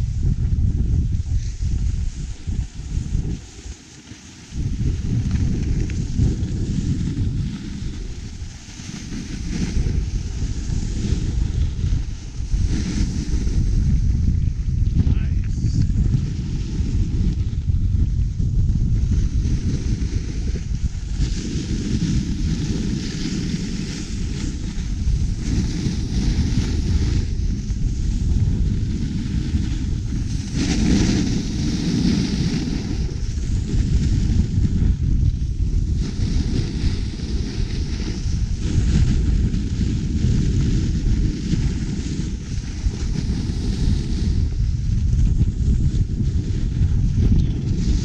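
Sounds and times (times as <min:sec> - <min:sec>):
skis carving on snow: 0:00.0 - 0:48.0
wind buffeting microphone: 0:00.0 - 0:48.0.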